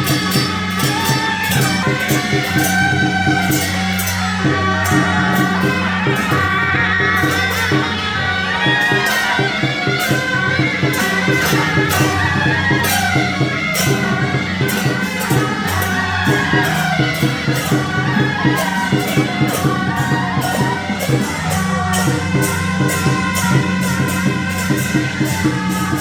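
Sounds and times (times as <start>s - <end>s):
sustained low tones: 0.0s - 26.0s
tambourine-like percussion strikes: 0.0s - 26.0s.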